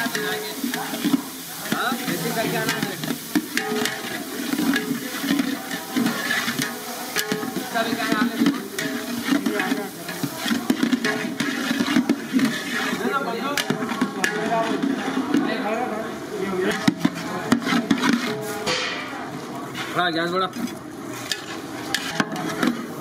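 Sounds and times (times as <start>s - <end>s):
water pouring into a pan: 0.0s - 18.6s
wood fire hissing: 0.0s - 18.7s
curry bubbling: 0.0s - 23.0s
metal ladle scraping a pan: 0.0s - 23.0s
workers chattering: 0.0s - 23.0s.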